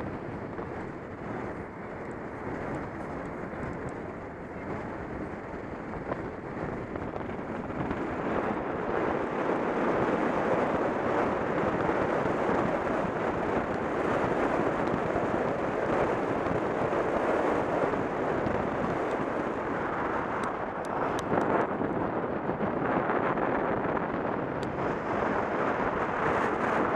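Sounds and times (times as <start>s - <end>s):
vehicle road noise: 0.0s - 26.9s
wind on microphone: 0.0s - 26.9s.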